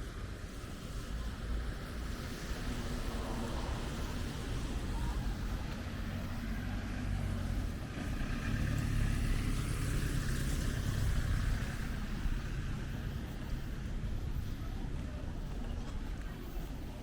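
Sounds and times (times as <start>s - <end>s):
street noise: 0.0s - 17.0s
passing vehicle engine: 1.0s - 17.0s.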